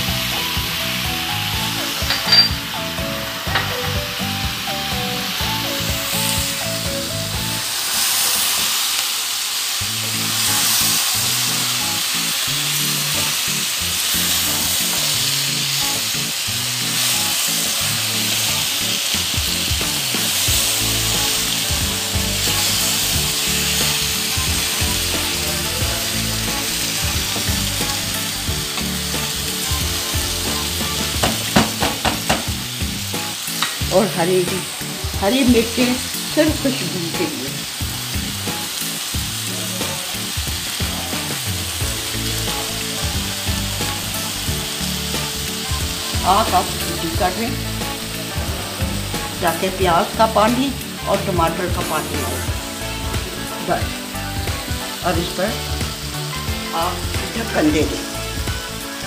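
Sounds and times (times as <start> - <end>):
background music: 0.0 - 9.0, 9.8 - 59.0
vegetables sizzling in oil: 0.0 - 59.0.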